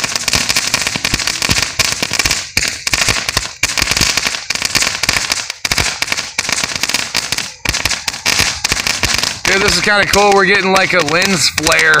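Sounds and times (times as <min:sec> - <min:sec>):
firework crackling and popping: 0:00.0 - 0:12.0.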